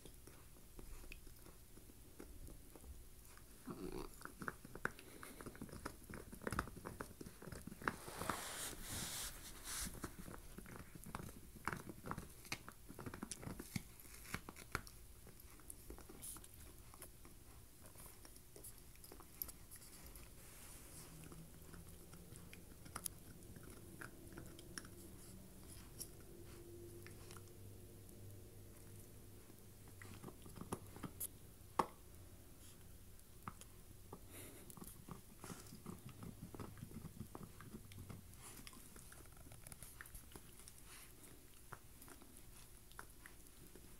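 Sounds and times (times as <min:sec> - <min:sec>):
puppy gnawing antler: 0:00.0 - 0:43.9.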